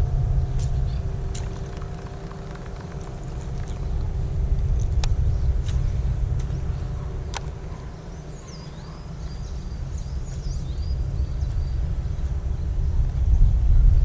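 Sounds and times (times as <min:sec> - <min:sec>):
faint hum: 0:00.0 - 0:14.0
steady low rumble: 0:00.0 - 0:14.0
bird chirping: 0:00.3 - 0:13.6.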